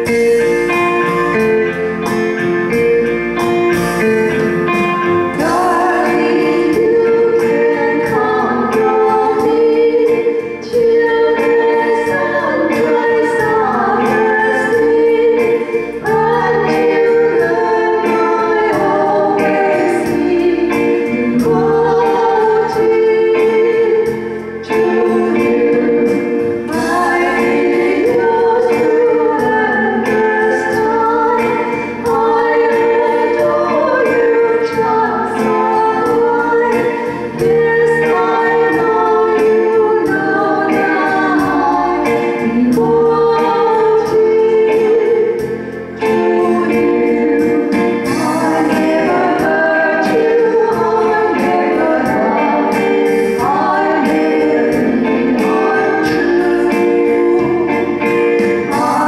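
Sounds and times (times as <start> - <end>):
electronic keyboard: 0.0 - 59.0
two women singing: 2.3 - 59.0.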